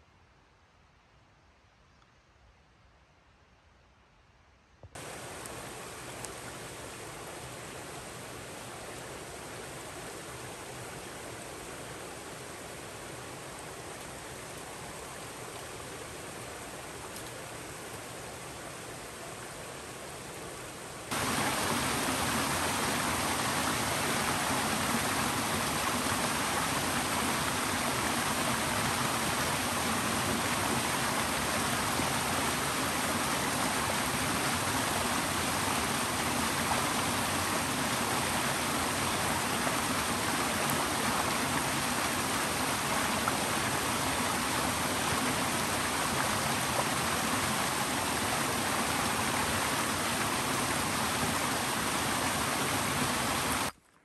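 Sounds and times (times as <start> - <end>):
creek rushing: 5.0 - 53.8.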